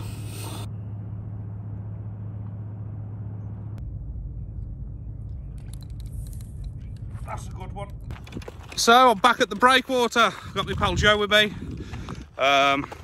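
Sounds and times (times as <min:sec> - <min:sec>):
low rumble with hum: 0:00.0 - 0:09.7, 0:10.3 - 0:13.0.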